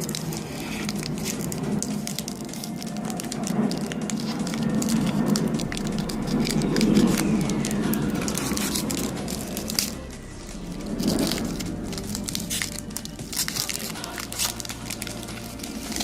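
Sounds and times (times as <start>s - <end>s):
foil wrapper crinkling: 0.0s - 16.0s.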